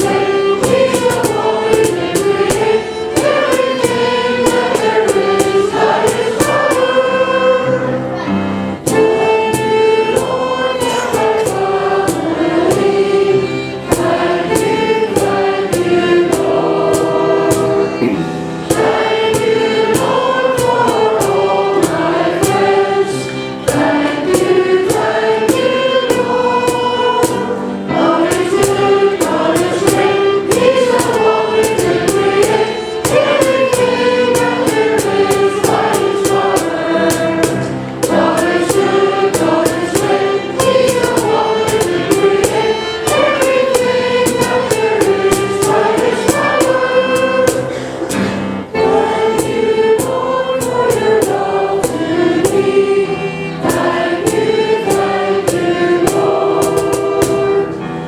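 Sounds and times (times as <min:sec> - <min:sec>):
choir singing: 0:00.0 - 0:58.0
instrumental accompaniment with beat: 0:00.0 - 0:58.0.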